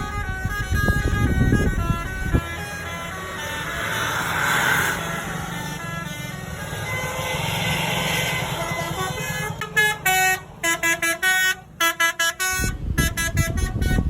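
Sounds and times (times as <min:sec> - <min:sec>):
bus horn playing musical notes: 0:00.0 - 0:14.0
deep engine rumble: 0:00.0 - 0:14.0
traffic and engine noise: 0:00.0 - 0:14.0.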